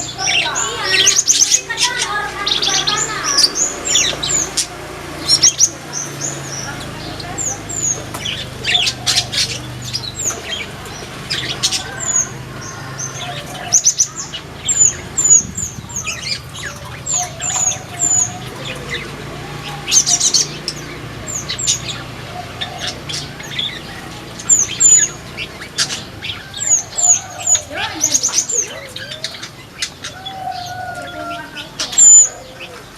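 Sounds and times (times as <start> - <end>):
wing flutters: 0.0 - 30.1
birds chirping: 0.0 - 32.9.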